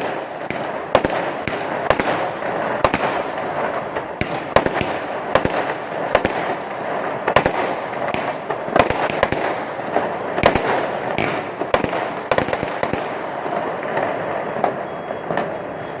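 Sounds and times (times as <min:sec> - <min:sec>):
background noise: 0:00.0 - 0:16.0
fireworks bangs: 0:00.0 - 0:16.0.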